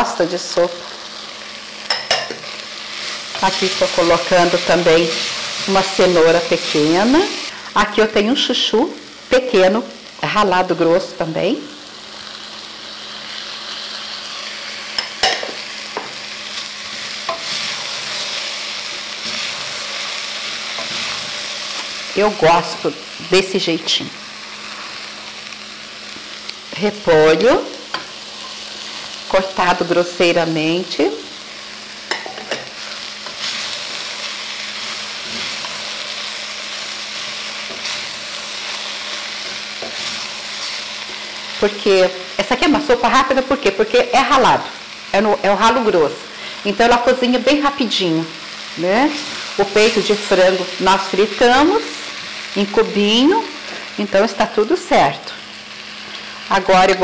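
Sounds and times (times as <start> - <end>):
vegetables sizzling in a pot: 0.0 - 57.0.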